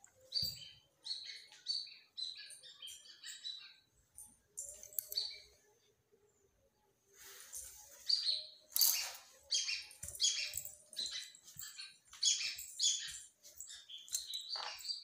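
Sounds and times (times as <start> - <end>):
birds chirping: 0.0 - 6.7, 7.3 - 15.0.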